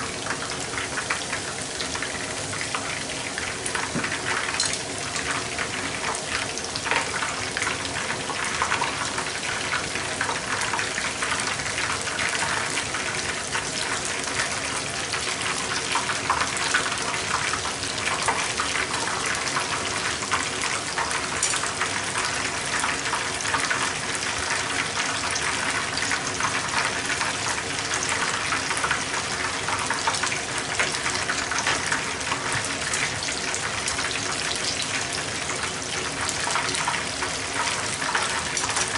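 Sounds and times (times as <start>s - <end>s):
tempura sizzling in hot oil: 0.0s - 38.9s.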